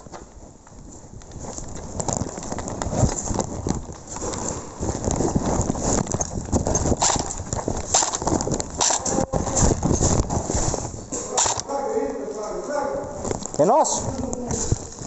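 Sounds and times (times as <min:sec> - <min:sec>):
footsteps on hard ground: 0:00.0 - 0:15.0
gear rattling and rustling: 0:00.0 - 0:15.0.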